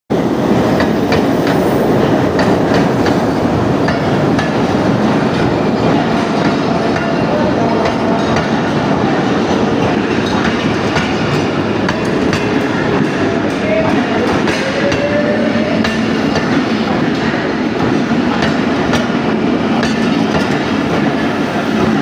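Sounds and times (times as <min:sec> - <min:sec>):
train rumbling with wheel clicks: 0:00.1 - 0:22.0.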